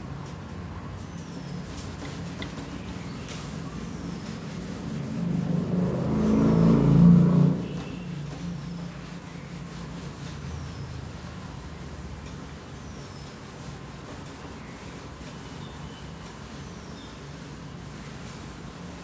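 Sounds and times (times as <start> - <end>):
whiteboard being wiped: 1.0 - 19.0.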